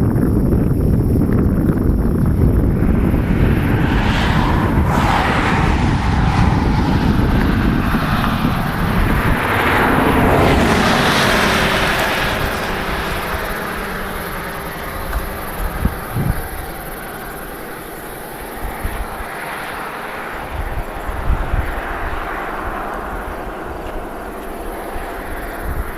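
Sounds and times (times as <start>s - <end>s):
storm wind gusting: 0.0s - 25.9s
wind buffeting microphone: 0.0s - 25.9s.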